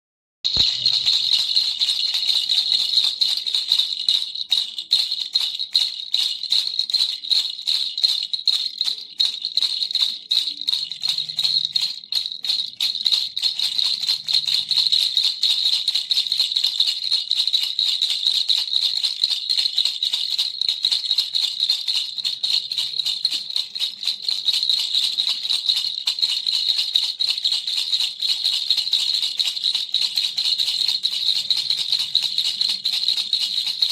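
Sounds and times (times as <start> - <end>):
toy rattle shaken: 0.5 - 33.9.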